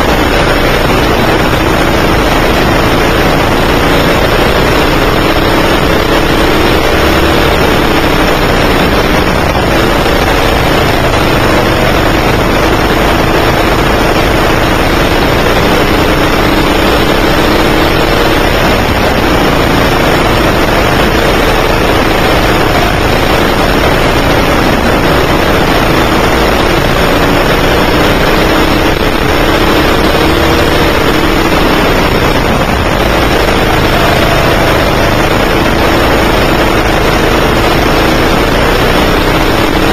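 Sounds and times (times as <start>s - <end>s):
constant rushing noise: 0.0s - 39.9s
go-kart engine running hard: 0.0s - 39.9s.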